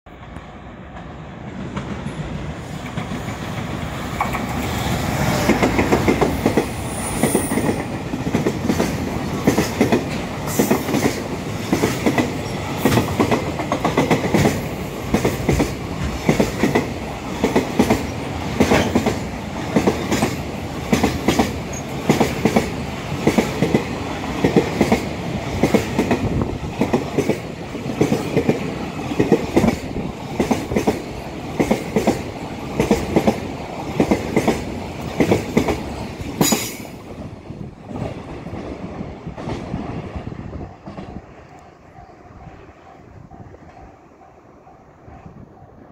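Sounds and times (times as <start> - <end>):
wheels clacking over rail joints: 0.1 - 37.0
freight train passing: 0.1 - 45.9.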